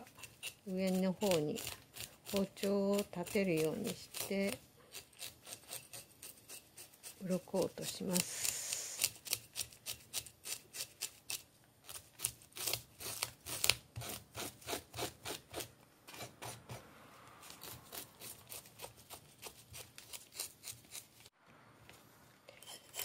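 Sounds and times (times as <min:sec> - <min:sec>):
knife scraping fish scales: 0:00.0 - 0:16.8, 0:17.4 - 0:21.3, 0:22.5 - 0:23.0.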